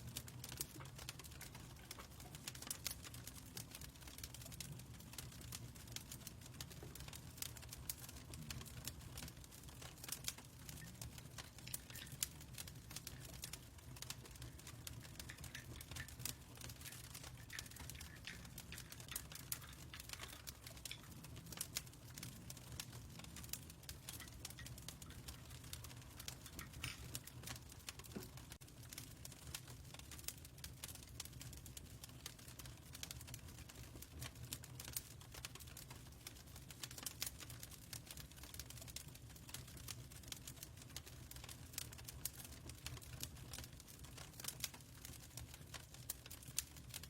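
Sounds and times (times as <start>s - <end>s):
fireplace crackling: 0.0s - 47.0s.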